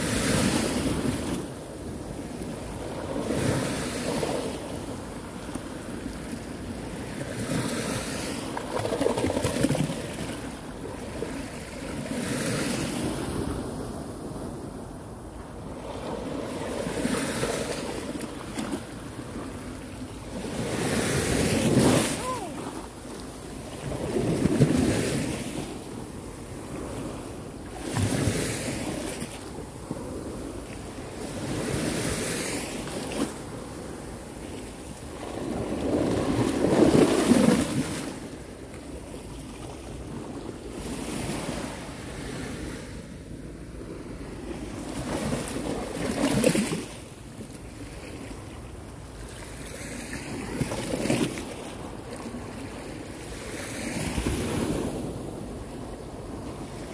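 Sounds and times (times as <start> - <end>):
small waves washing over seawall: 0.0 - 43.3, 44.2 - 56.9.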